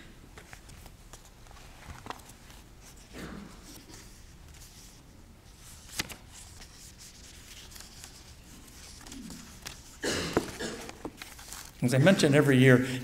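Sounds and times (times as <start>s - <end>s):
book pages rustling: 0.4s - 11.9s.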